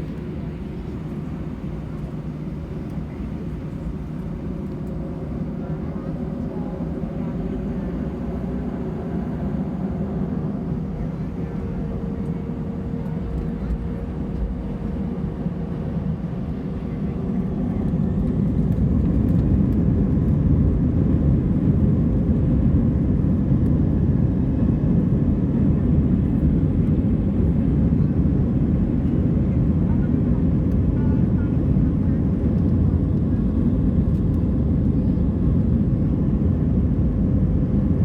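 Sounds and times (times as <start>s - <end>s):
jet engines roaring in cabin: 0.0s - 38.0s.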